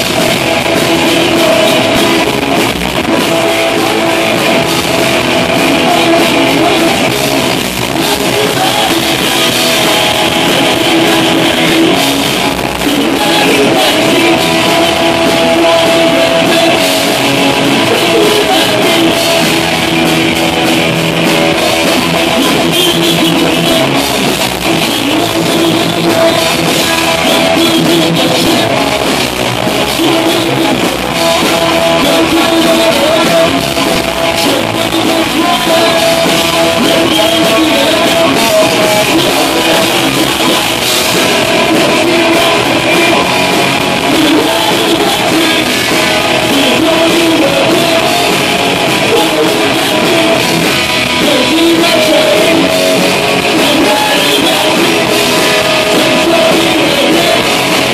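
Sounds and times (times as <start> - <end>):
distorted electric guitar: 0.0 - 57.9
drum kit hit hard: 0.0 - 57.9.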